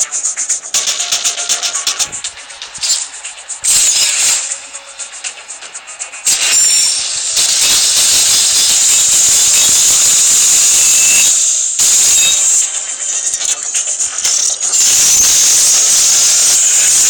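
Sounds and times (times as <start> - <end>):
spinning tops hissing rush: 0.0 - 17.0.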